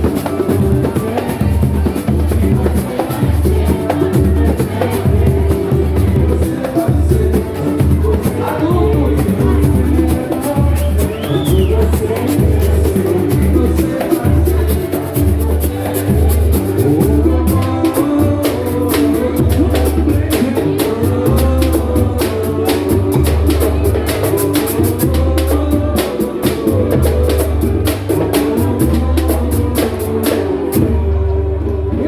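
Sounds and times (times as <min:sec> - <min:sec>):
fast dense percussion: 0:00.0 - 0:31.2
person singing: 0:00.0 - 0:32.0
pulsing bass line: 0:00.0 - 0:32.0.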